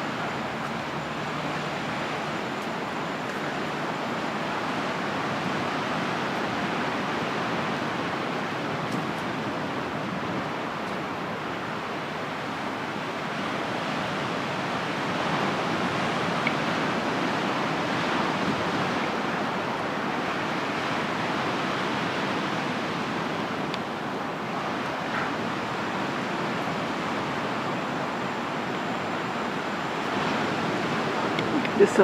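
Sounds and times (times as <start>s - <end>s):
surf washing onto beach: 0.0s - 32.0s.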